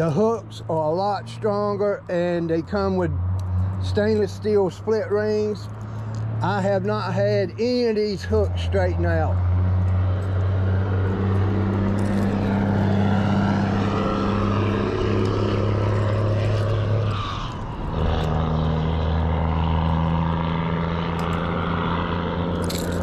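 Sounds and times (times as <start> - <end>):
heavy trucks engine drone: 0.0 - 23.0.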